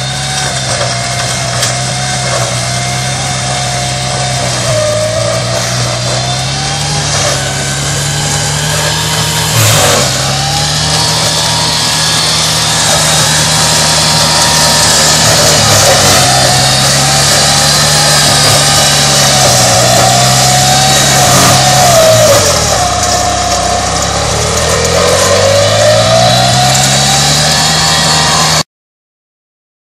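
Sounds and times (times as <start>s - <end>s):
high-pitched cutter whine: 0.0s - 28.6s
ride-on mower engine running: 0.0s - 28.6s.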